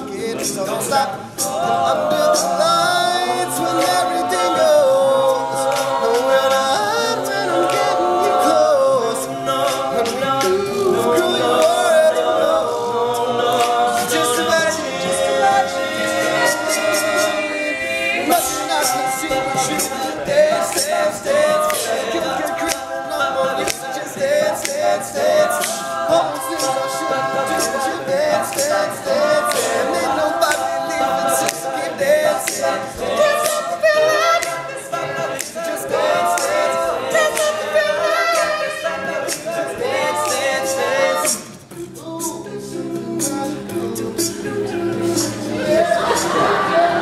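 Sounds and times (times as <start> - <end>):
male a cappella harmonies: 0.0 - 47.0
vocal percussion beat: 0.0 - 47.0.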